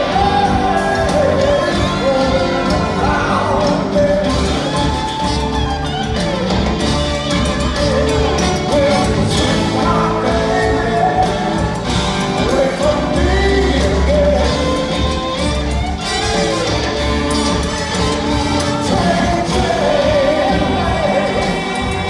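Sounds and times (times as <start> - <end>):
live rock and roll band: 0.0 - 22.0.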